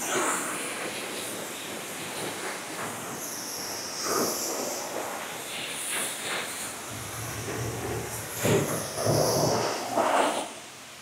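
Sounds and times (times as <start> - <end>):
high-pressure water spraying: 0.0 - 10.9.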